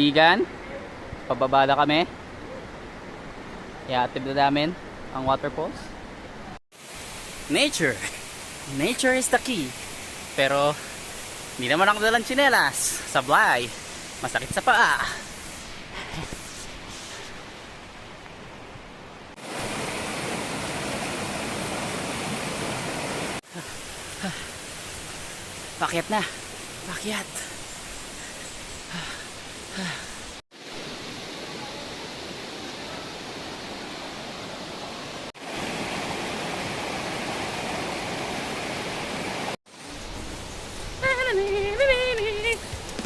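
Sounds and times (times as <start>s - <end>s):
waterfall rushing: 6.8s - 18.1s, 19.4s - 43.0s.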